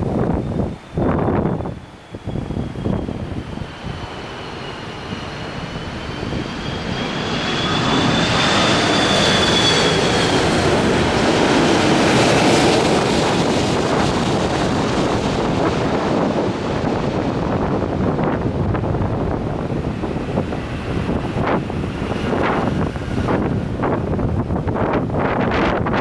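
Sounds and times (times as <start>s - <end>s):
jet turbofan whine: 0.0s - 26.0s
rushing jet engine noise: 0.0s - 26.0s.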